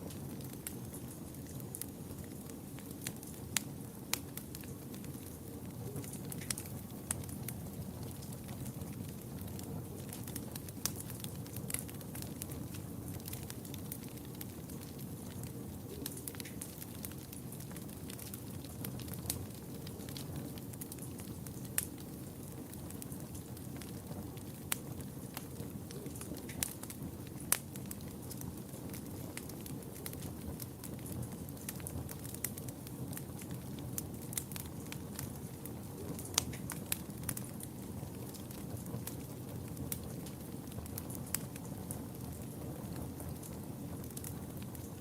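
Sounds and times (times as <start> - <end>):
fire crackles and pops: 0.0 - 45.0
low rumble of flame: 0.0 - 45.0.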